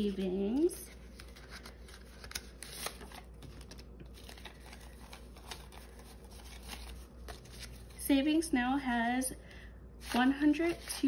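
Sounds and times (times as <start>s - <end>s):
banknotes rustling: 0.0s - 8.0s, 10.0s - 11.0s.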